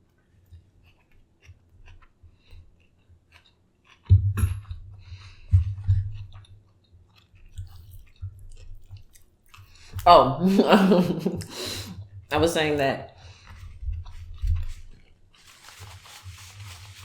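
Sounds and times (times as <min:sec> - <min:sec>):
person chewing food: 0:00.0 - 0:10.0, 0:13.2 - 0:17.0.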